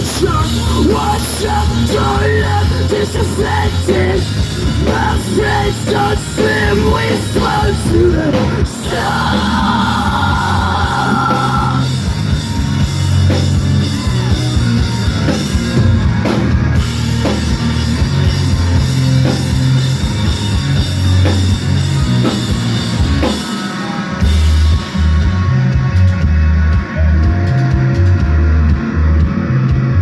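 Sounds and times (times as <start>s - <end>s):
rock band playing instrumental: 0.0s - 30.0s.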